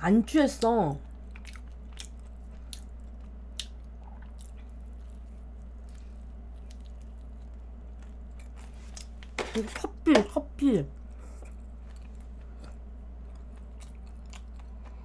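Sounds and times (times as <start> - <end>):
chewing: 1.0 - 9.3, 11.1 - 15.0.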